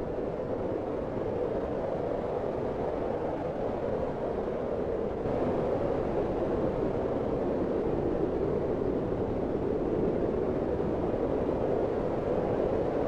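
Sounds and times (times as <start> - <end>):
steady wind: 0.0 - 13.0.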